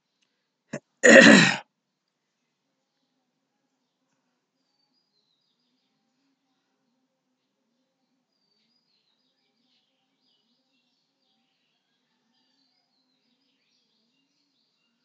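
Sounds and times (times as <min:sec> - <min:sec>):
faint small bird chirps: 0:02.8 - 0:15.0.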